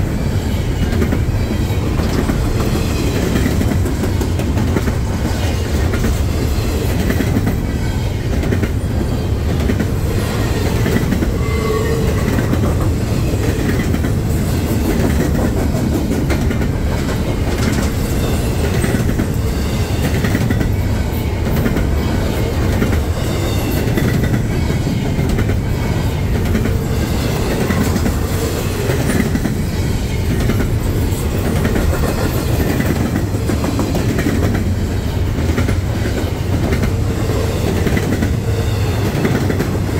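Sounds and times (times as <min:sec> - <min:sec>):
train wheels clacking over rails: 0:00.0 - 0:39.9.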